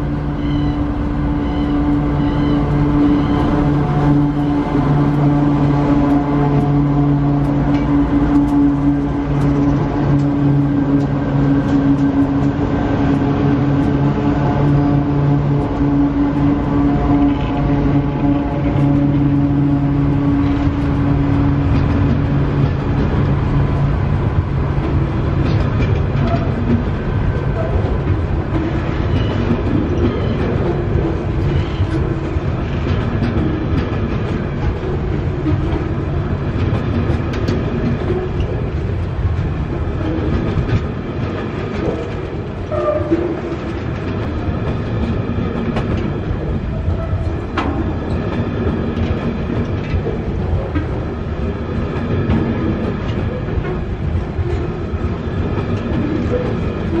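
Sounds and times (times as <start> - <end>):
freight wagons rumbling past: 0.0 - 57.0
wheels clicking over rail joints: 0.0 - 57.0.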